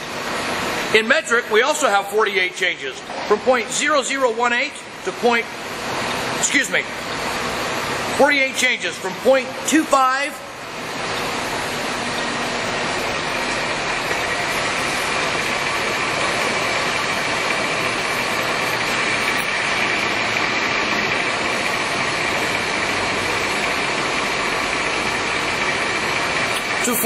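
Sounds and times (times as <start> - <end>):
lathe humming with high whine: 0.0 - 27.0.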